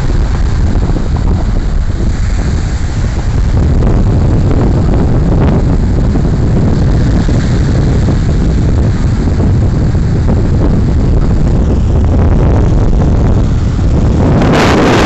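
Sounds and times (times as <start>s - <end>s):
surf washing on beach: 0.0s - 15.0s
wind buffeting microphone: 0.0s - 15.0s.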